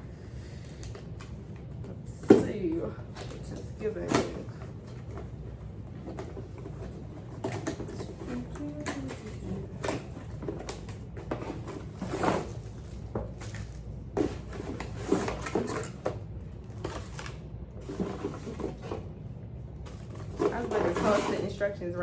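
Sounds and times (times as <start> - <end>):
cardboard and plastic packaging rustling: 0.4 - 22.0.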